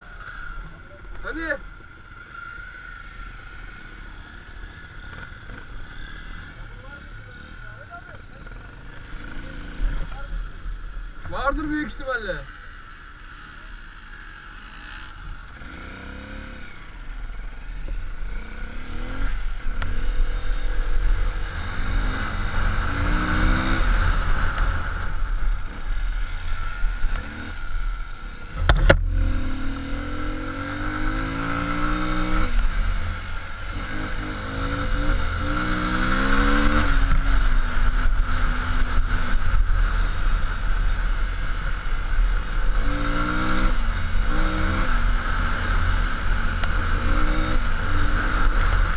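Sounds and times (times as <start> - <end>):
road rumble: 0.0 - 48.9.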